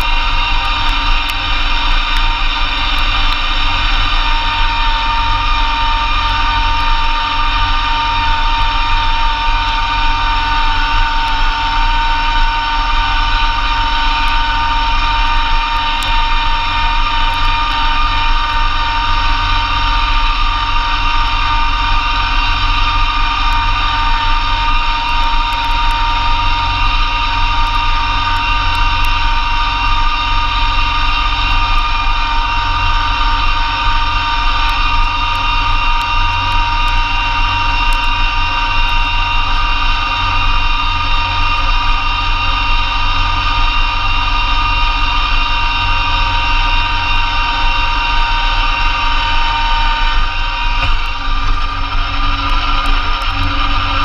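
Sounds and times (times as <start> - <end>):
snowblower high whine: 0.0 - 54.0
tractor diesel engine drone: 0.0 - 54.0.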